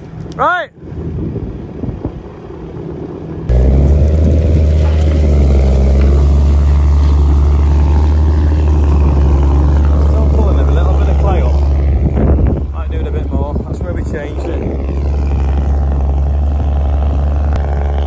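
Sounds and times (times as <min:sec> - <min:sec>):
tractor rumbling: 0:00.0 - 0:18.0
wind: 0:00.0 - 0:18.0.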